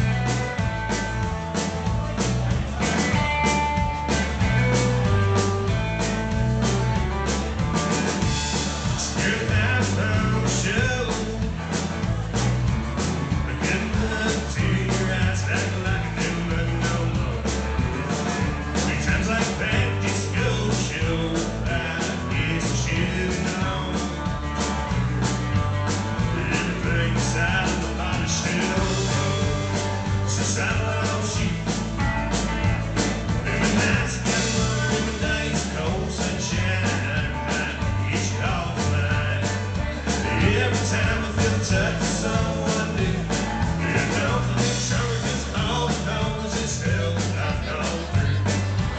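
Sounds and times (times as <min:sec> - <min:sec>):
bass guitar: 0:00.0 - 0:48.9
drum kit beat: 0:00.0 - 0:48.9
electric and acoustic guitars: 0:00.0 - 0:48.9.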